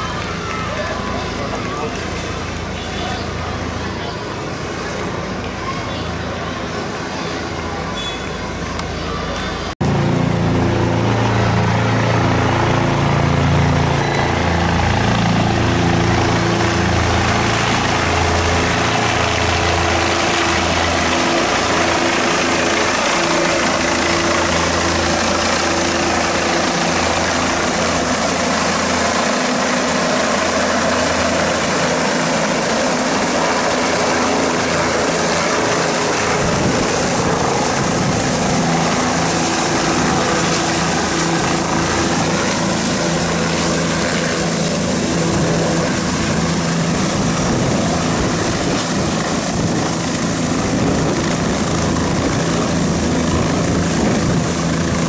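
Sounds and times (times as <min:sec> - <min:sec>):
helicopter rotor whirring: 0:00.0 - 0:55.0.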